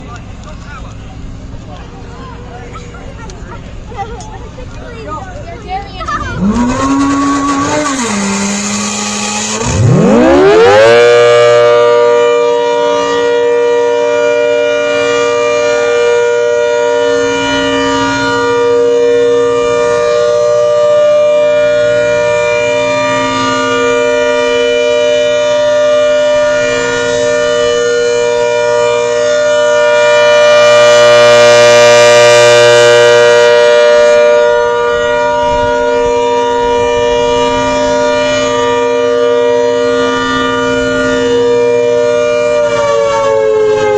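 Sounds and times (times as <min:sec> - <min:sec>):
warning siren: 0:06.0 - 0:43.9.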